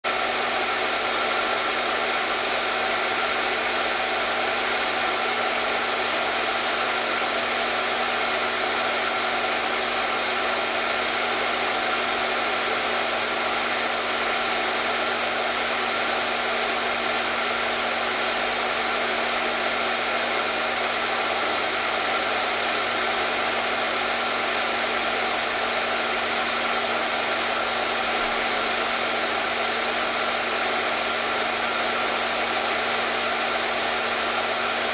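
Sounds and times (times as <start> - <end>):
hair dryer blowing: 0.0 - 34.9.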